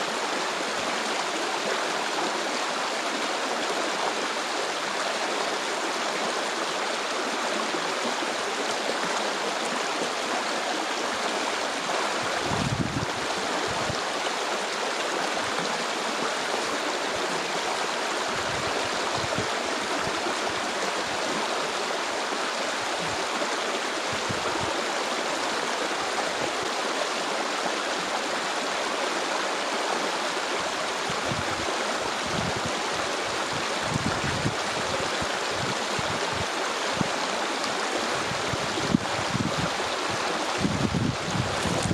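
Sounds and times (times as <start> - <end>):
stream of flowing water: 0.0 - 41.9.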